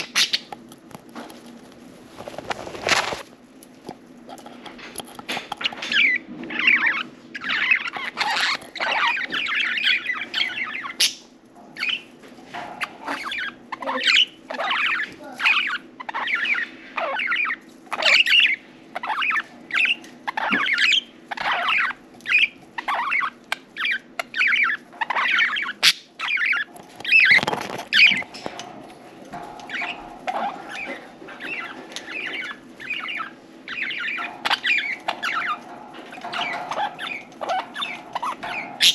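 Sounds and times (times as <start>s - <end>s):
budgerigars chirping: 0.0s - 0.5s, 5.3s - 28.8s, 29.4s - 38.9s.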